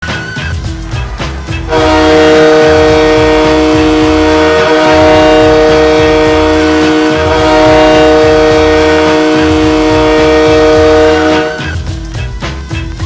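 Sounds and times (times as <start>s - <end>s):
low rumble: 0.6s - 13.0s
goal horn multi-tone chord: 0.9s - 12.0s.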